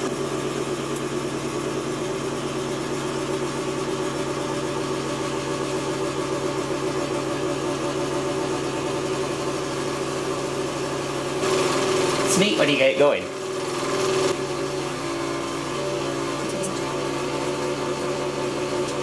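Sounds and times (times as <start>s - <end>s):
candyfloss machine motor humming: 0.0s - 19.0s.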